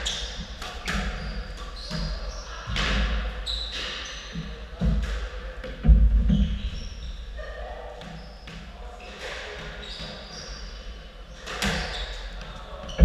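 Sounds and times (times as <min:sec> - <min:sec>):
court shoes squeaking on floor: 0:00.0 - 0:05.2, 0:06.2 - 0:13.0.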